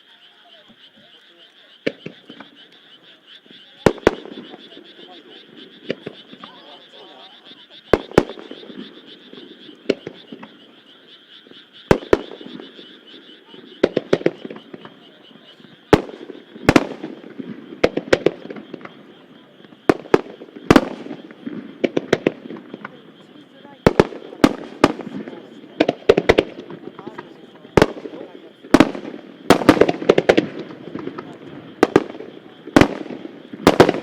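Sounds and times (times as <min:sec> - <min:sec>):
fireworks crackling: 0:00.0 - 0:10.8, 0:11.4 - 0:34.0
frogs chorusing: 0:00.0 - 0:34.0.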